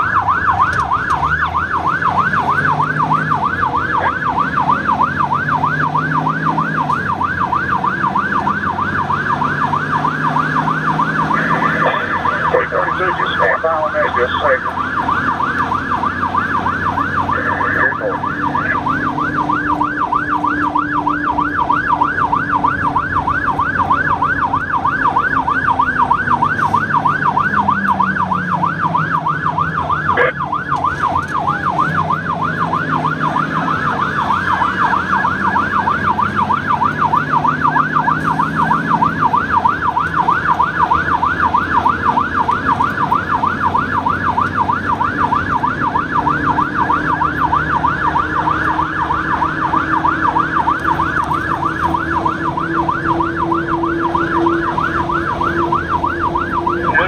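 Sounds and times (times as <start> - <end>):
emergency siren yelp: 0.0 - 57.0
vehicle engine and road noise: 0.0 - 57.0.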